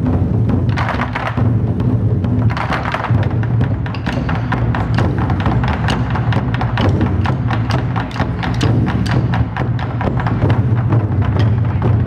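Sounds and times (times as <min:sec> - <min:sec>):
large drums beaten in fast rhythm: 0:00.0 - 0:12.0.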